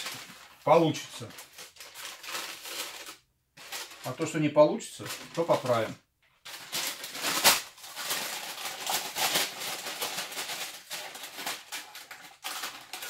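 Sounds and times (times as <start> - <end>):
parchment paper rustling: 0.0 - 4.4, 5.0 - 13.0.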